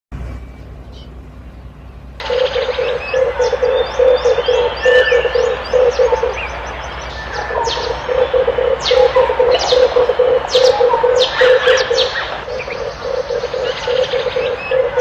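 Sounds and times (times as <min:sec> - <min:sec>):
small birds chirping: 0:00.4 - 0:15.0
dove rolling low cooing: 0:02.2 - 0:15.0.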